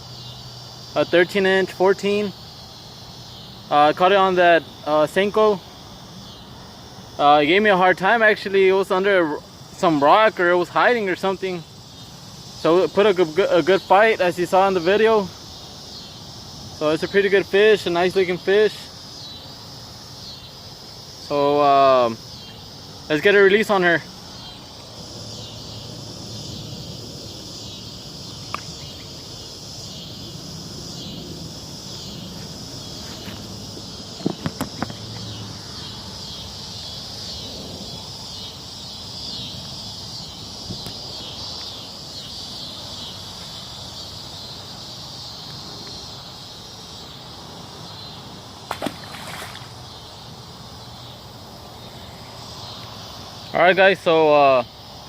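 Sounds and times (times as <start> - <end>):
insects buzzing: 0.0 - 55.0
low outdoor hum: 0.0 - 55.0.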